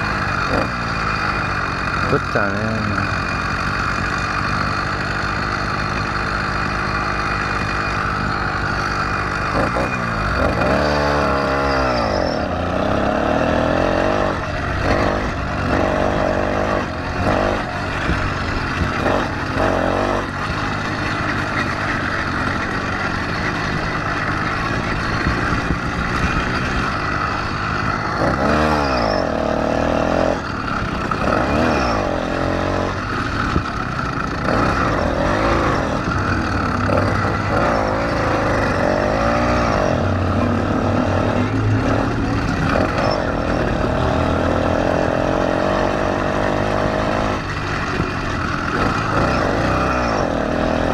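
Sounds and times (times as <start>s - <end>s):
small engine running hard: 0.0s - 50.9s.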